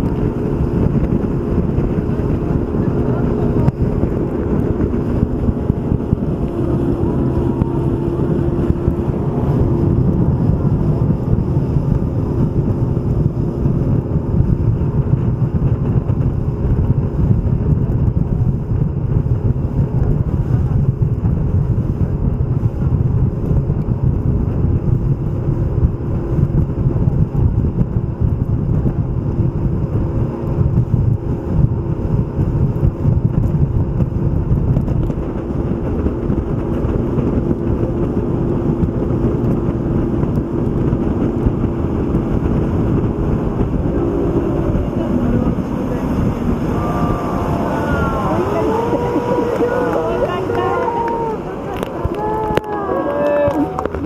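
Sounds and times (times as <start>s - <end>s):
speedboat motor droning: 0.0s - 54.0s
wind buffeting microphone: 0.0s - 54.0s.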